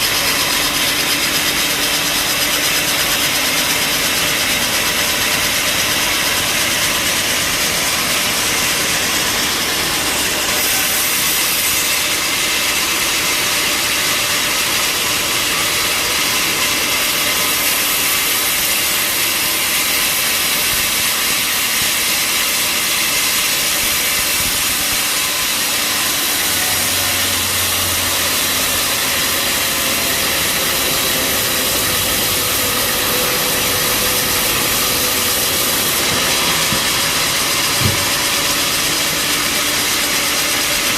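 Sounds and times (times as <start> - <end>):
bandsaw blade sawing through log: 0.0 - 40.9
sawmill engine running: 0.0 - 40.9.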